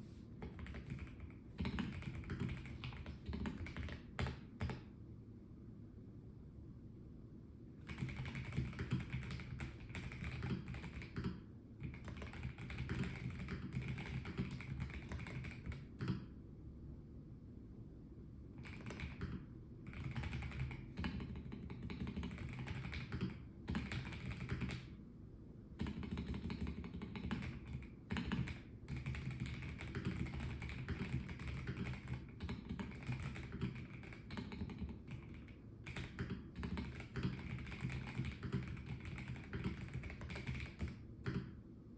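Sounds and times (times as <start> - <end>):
low steady hum: 0.0 - 41.9
mechanical keyboard typing: 0.4 - 4.9, 7.8 - 16.3, 18.6 - 24.9, 25.8 - 41.5.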